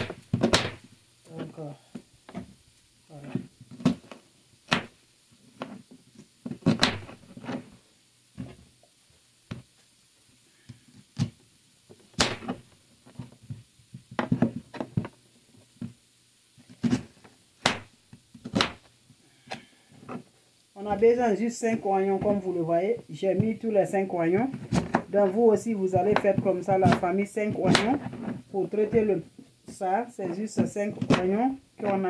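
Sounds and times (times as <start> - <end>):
onions knocking and thudding: 0.0 - 8.7, 10.6 - 16.0, 16.6 - 32.0.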